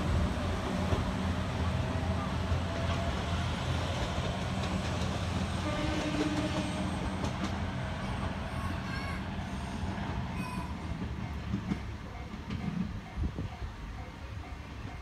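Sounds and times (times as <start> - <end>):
diesel railcar engine humming: 0.0 - 15.0.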